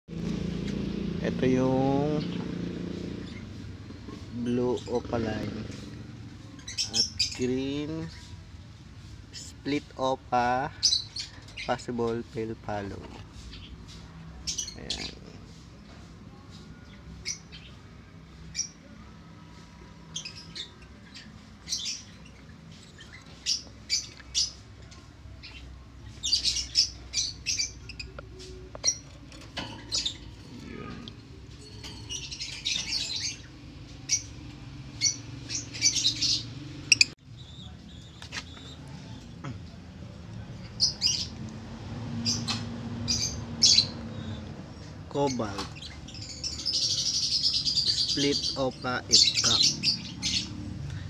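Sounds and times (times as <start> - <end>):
lovebirds chirping and squawking: 0.2 - 51.0.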